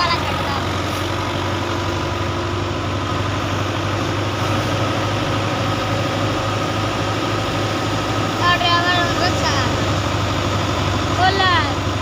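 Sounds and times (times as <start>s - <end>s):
heavy machinery engine droning: 0.0s - 12.0s.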